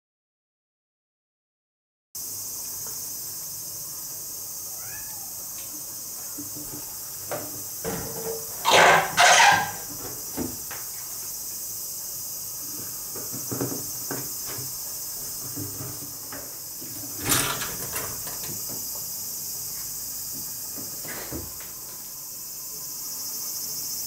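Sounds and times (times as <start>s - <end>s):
crickets chirping: 2.2s - 24.0s.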